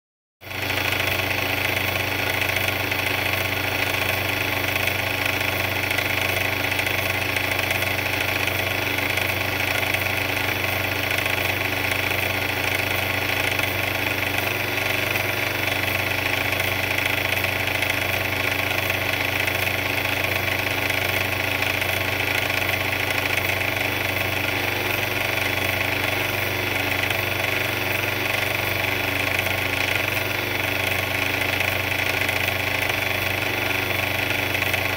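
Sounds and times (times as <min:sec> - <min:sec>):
mixer machine drone: 0:00.4 - 0:34.9.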